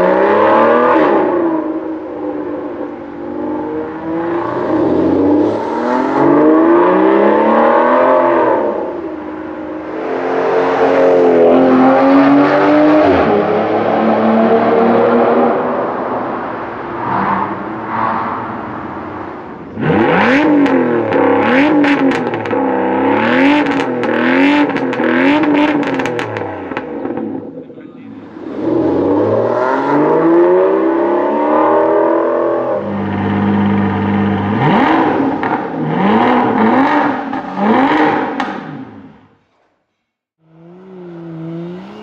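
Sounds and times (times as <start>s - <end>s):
car engine revving: 0.0s - 39.2s, 40.4s - 42.0s.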